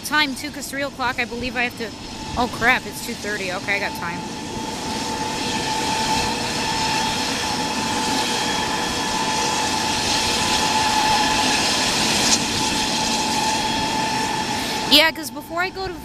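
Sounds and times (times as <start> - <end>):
jet engines idling: 0.0 - 16.0.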